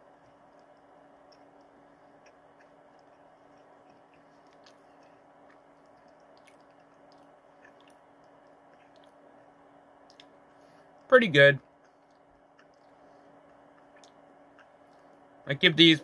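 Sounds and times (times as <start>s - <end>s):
soft chewing with mouth clicks: 0.0s - 15.3s
low room hum: 0.0s - 16.0s.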